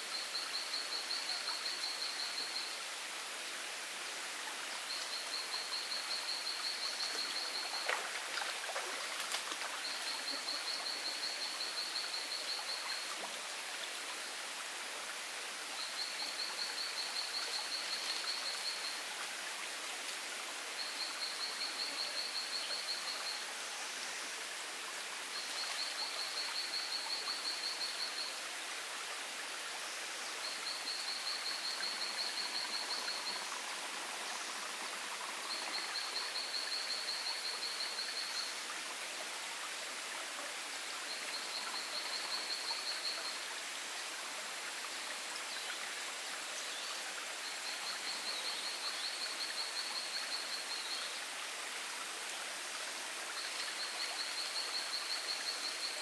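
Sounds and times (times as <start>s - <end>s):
forest stream rushing: 0.0s - 56.0s.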